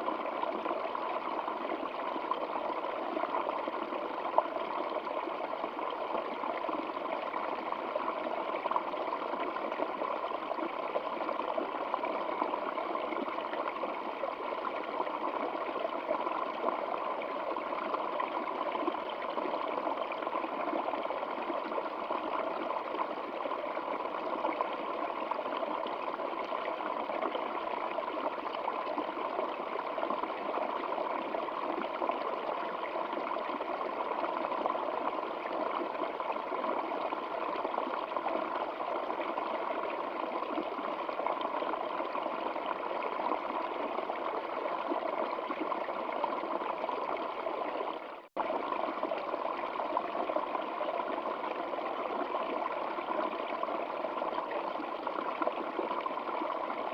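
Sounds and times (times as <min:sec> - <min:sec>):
stream water flowing: 0:00.0 - 0:56.9.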